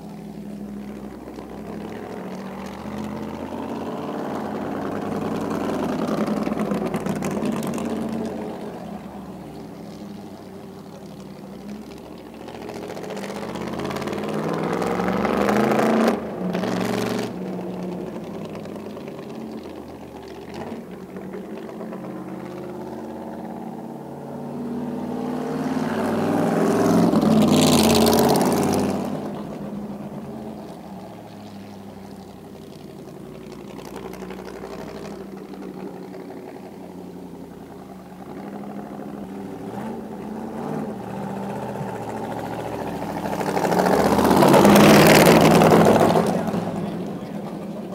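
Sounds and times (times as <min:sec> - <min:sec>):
race car engine driving past: 0:00.0 - 0:47.9.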